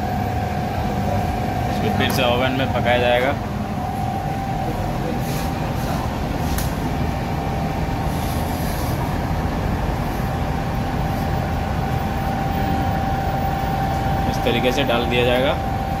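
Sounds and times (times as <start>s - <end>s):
oven blower humming: 0.0s - 16.0s.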